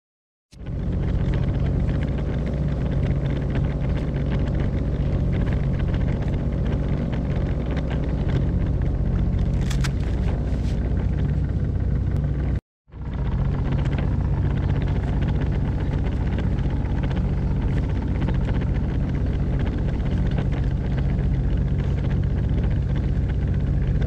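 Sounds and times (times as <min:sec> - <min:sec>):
jet ski engine idling: 0:00.6 - 0:24.0.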